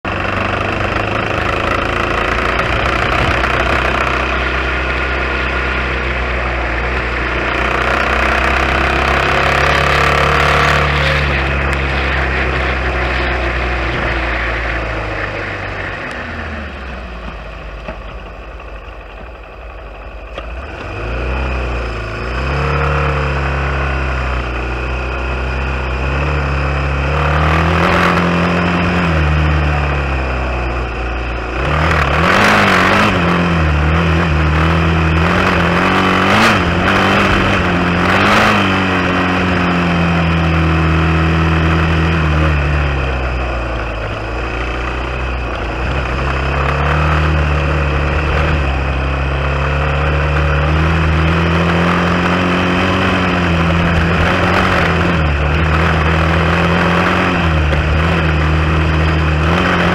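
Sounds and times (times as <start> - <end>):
dirt bike engine revving: 0.1 - 17.2, 20.6 - 59.9.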